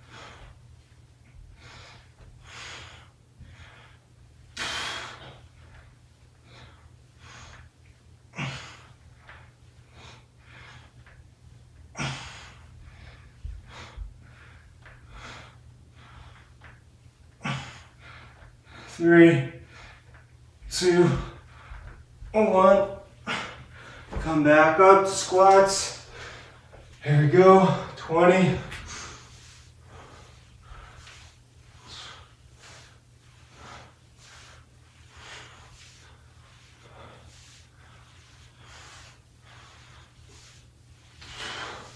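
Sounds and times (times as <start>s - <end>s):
man breathing hard: 0.0s - 0.7s, 1.3s - 7.7s, 8.3s - 11.2s, 11.9s - 20.3s, 20.9s - 22.2s, 23.0s - 24.2s, 25.8s - 27.0s, 27.6s - 41.9s
steady low hum: 0.0s - 41.9s.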